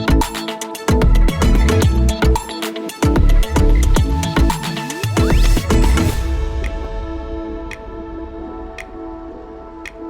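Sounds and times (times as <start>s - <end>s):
electronic music with drum beat: 0.0s - 10.0s.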